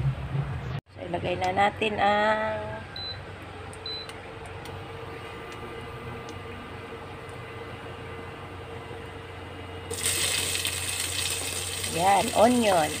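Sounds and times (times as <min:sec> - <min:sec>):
electric cooktop humming: 0:01.1 - 0:13.0.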